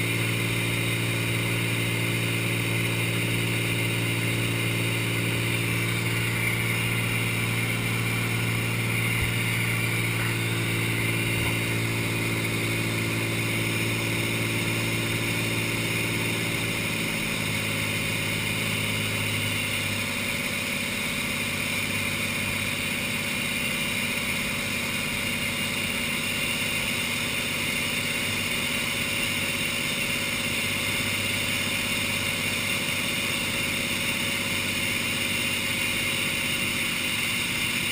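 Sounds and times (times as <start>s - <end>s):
propeller aircraft engine droning: 0.0s - 37.9s.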